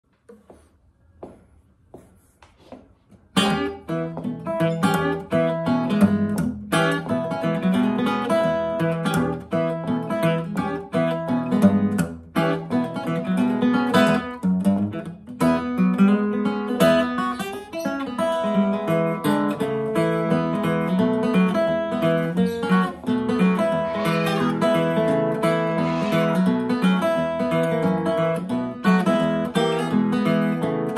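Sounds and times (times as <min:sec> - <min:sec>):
fingerpicked acoustic guitar: 0:03.3 - 0:30.9.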